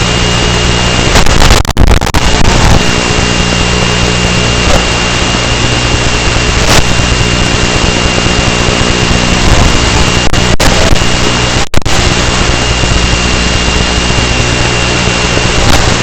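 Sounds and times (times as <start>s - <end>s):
electric motor whine: 0.0s - 16.0s
wind rush over microphone: 0.0s - 16.0s.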